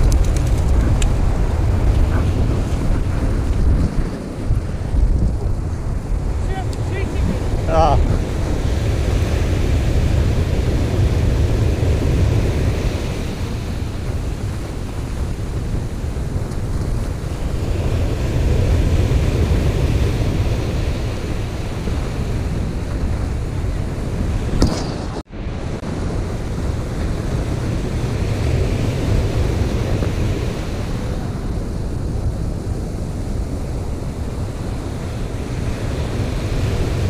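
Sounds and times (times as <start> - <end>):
ocean surf breaking: 0.0 - 37.0
wind buffeting microphone: 0.0 - 37.0.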